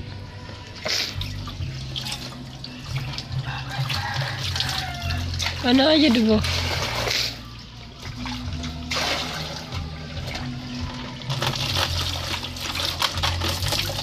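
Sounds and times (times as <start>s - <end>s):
water splashing in plastic basin: 1.1s - 14.0s.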